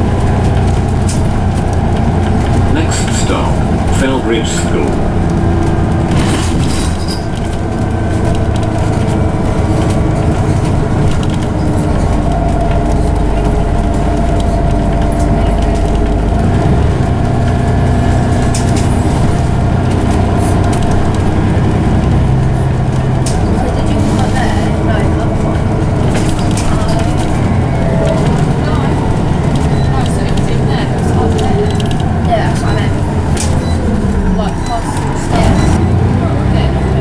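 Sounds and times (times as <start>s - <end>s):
bus engine running: 0.0s - 37.0s
gearbox whining: 0.0s - 37.0s.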